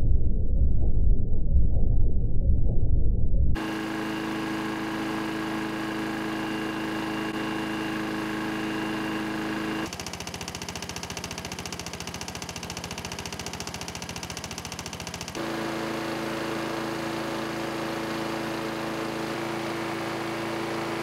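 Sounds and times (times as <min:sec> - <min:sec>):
lawn mower engine running: 0:03.6 - 0:21.0.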